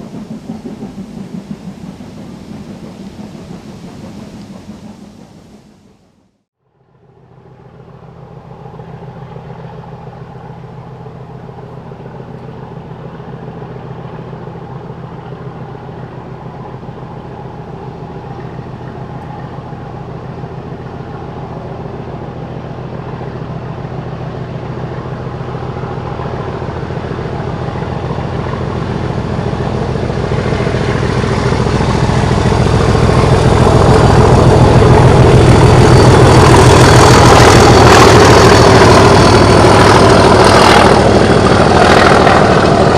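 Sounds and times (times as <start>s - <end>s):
railway locomotive working uphill: 0.0s - 42.9s.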